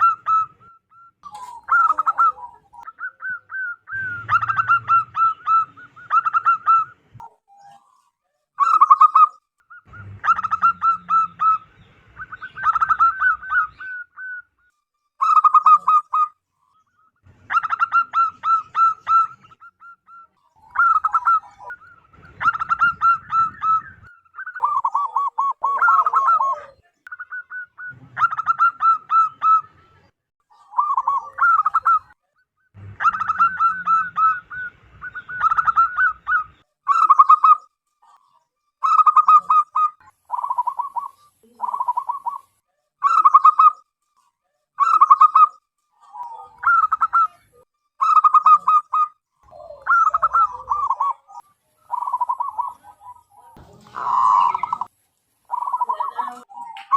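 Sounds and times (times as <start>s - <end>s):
doves cooing: 0.0s - 43.8s, 44.8s - 56.9s.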